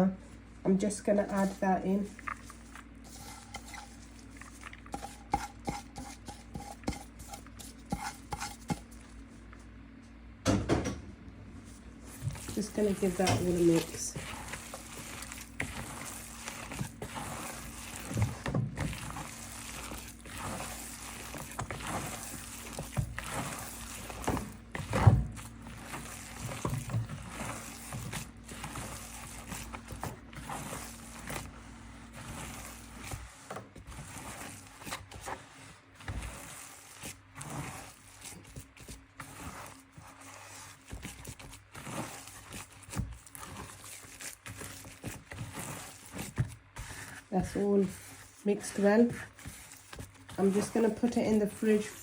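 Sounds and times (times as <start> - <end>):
mixing food in a bowl: 0.0 - 10.0, 11.6 - 52.0.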